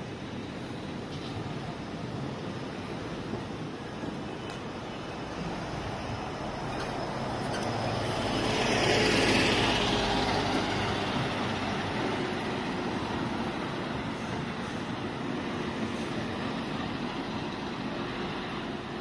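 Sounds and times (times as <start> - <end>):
traffic hum: 0.0 - 19.0.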